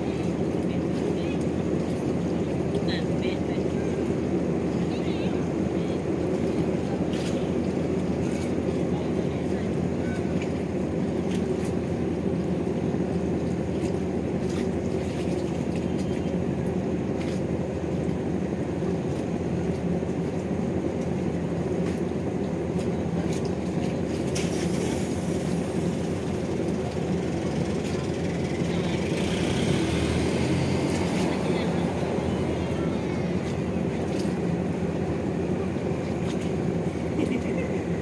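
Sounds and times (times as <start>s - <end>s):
ship engine rumbling: 0.0s - 38.0s.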